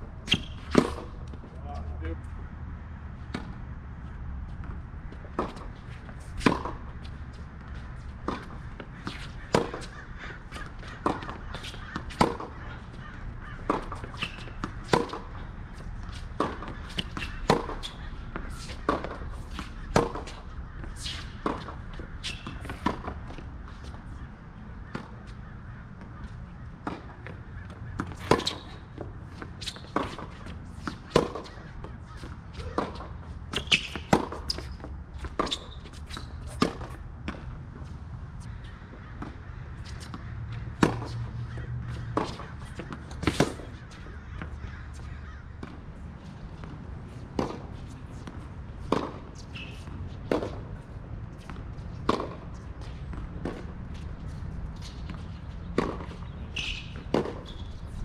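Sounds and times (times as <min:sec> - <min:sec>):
tennis balls bouncing on hard court: 0:00.2 - 0:01.9, 0:04.5 - 0:58.0
tennis balls struck by rackets: 0:00.2 - 0:02.2, 0:03.2 - 0:03.8, 0:04.6 - 0:58.0.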